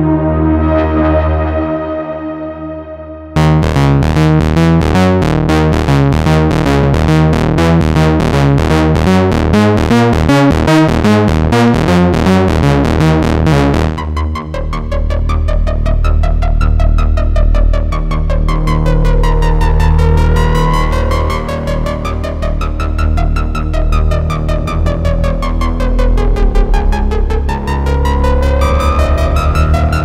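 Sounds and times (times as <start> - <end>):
held synthesizer chord: 0.0 - 15.8, 18.0 - 30.0
synthesizer bass notes: 0.0 - 30.0.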